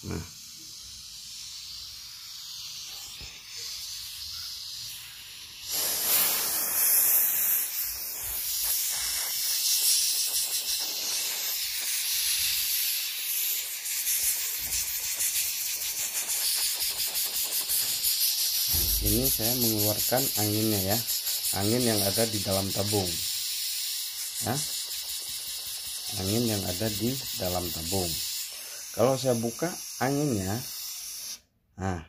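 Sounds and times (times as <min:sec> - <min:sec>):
high-pressure air hissing: 0:00.0 - 0:31.6.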